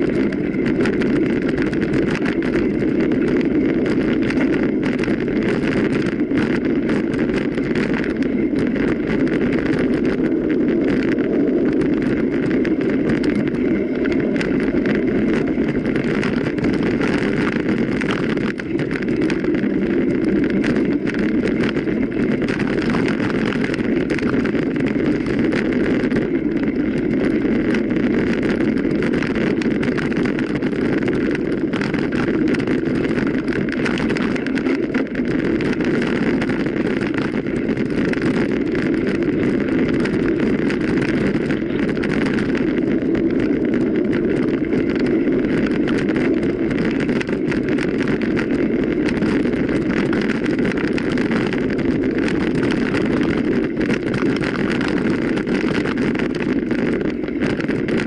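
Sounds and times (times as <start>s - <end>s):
bike rattling and knocking: 0.0s - 58.0s
wind rush on microphone: 0.0s - 58.0s.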